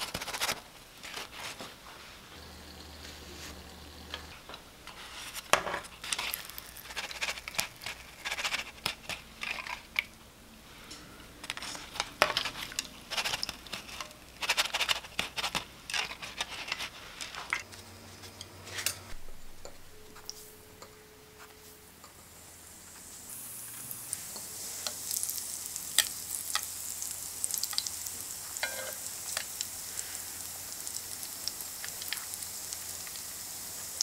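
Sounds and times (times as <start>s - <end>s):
doughnuts frying in oil: 0.0s - 19.0s, 21.9s - 34.0s.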